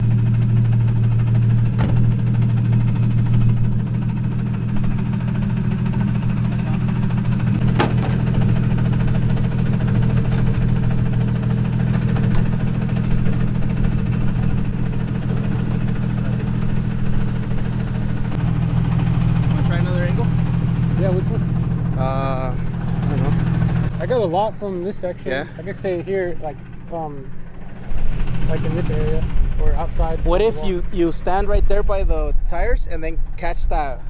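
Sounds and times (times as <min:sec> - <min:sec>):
car engine idling with knock: 0:00.0 - 0:31.4
steady low hum: 0:00.0 - 0:34.0.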